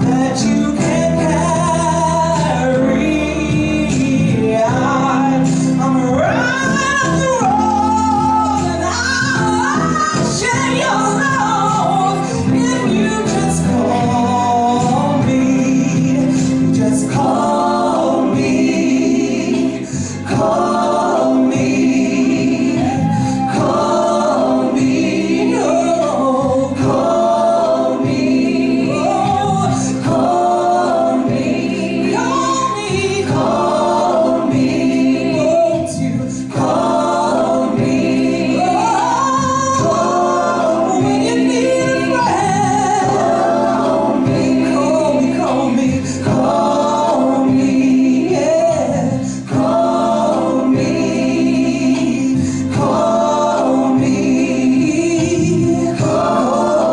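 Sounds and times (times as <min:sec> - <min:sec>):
musical accompaniment: 0:00.0 - 0:56.9
women singing a duet: 0:00.0 - 0:56.9.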